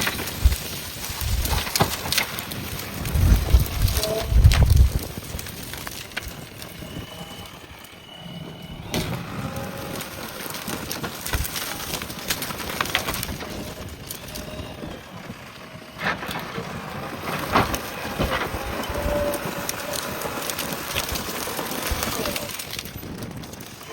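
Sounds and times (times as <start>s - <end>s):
backhoe loader working: 0.0s - 23.9s
branches cracking and snapping: 0.0s - 23.9s.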